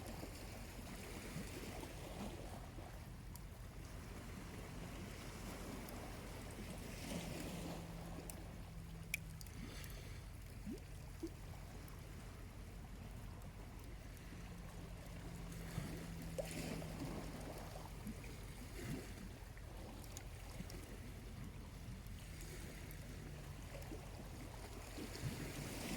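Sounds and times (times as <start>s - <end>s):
small waves washing onto beach: 0.0s - 25.9s.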